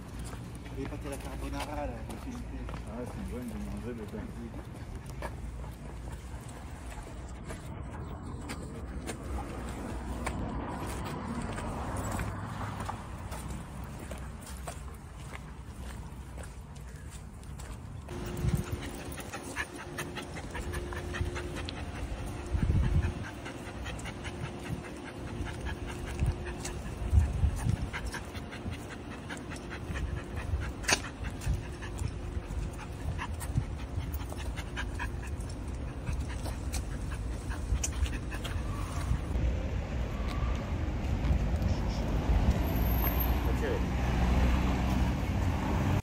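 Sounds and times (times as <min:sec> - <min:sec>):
light footsteps on paving stones: 0:00.0 - 0:39.4
puppy panting: 0:00.5 - 0:39.4.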